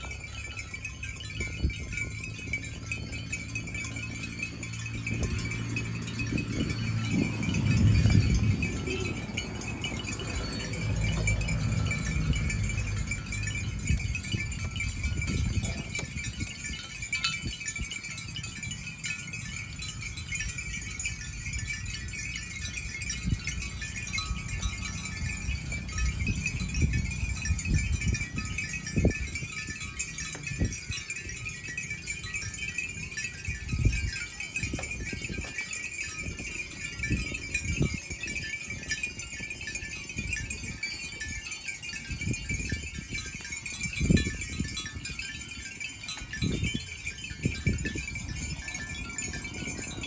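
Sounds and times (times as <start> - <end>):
animal bells jingling: 0.0 - 50.0.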